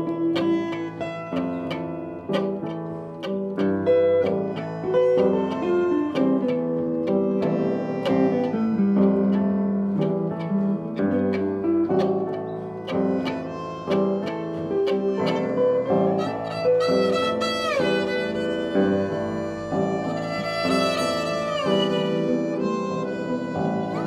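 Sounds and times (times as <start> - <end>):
piano chords: 0.0 - 24.0
violin: 0.0 - 24.0.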